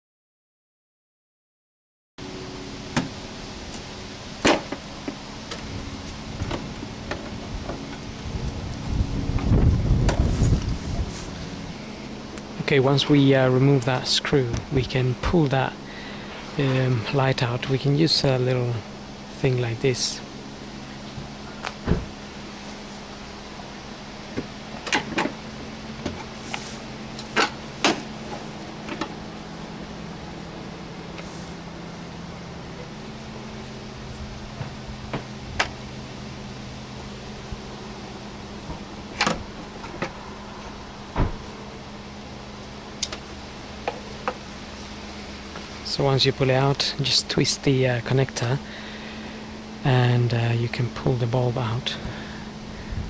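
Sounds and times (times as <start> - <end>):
steady low hum: 2.2 - 53.0.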